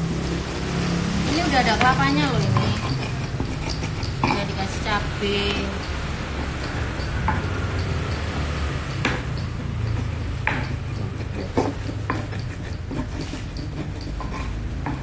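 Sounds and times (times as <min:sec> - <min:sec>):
steady low hum: 0:00.0 - 0:15.0
spoon clinking in metal bowls: 0:00.2 - 0:15.0.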